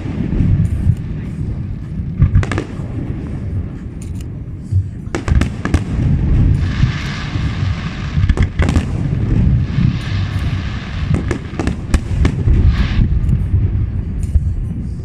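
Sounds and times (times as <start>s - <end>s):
deep rumble: 0.0s - 15.0s
dense crackling fireworks: 0.0s - 15.0s
fireworks bursting bangs: 0.0s - 15.0s.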